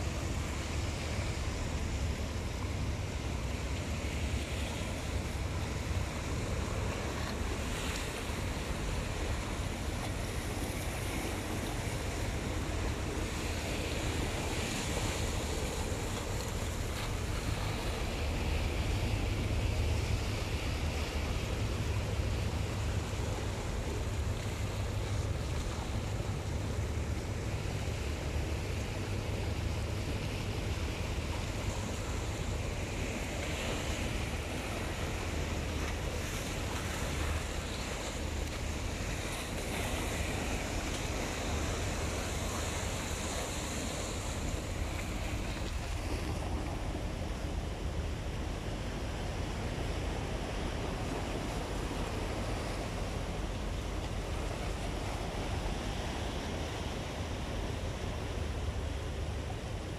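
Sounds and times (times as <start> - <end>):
waves washing over rocks: 0.0 - 59.9.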